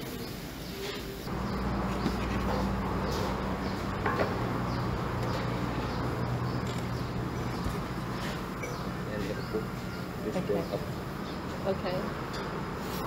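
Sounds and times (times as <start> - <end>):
low machine hum: 1.3 - 12.0.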